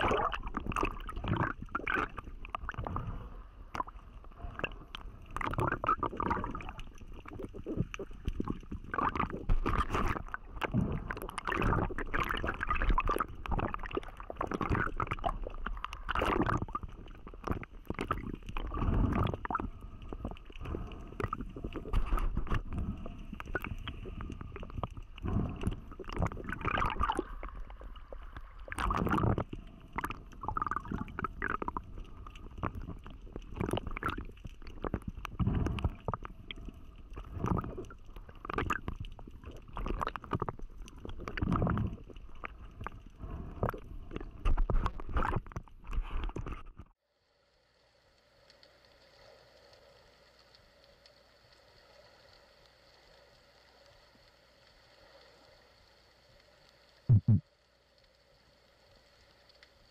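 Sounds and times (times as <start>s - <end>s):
underwater gurgling and rushing: 0.0s - 59.9s.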